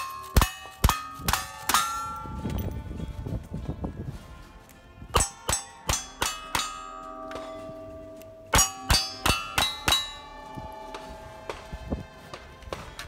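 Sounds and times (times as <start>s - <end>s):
steel targets clanging: 0.0s - 2.7s, 5.2s - 13.0s.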